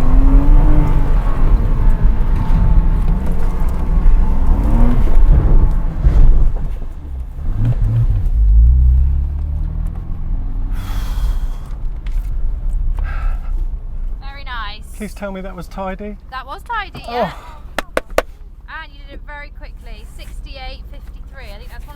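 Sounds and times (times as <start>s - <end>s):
car engine revving: 0.0s - 18.7s.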